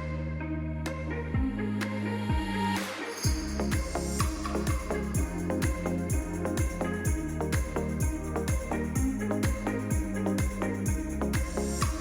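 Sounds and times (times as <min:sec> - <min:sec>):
music with deep kick drum: 0:01.4 - 0:12.0.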